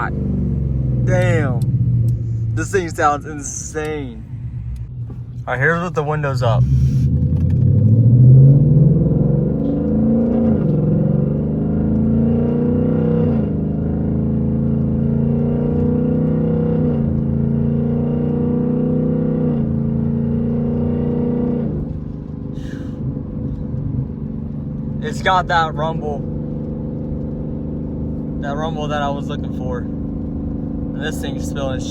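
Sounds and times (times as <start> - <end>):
car engine accelerating through gears: 0.0 - 31.9.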